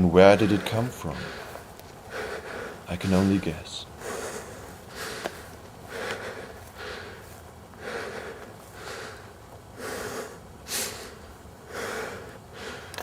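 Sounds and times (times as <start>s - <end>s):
person breathing heavily: 0.0s - 13.0s.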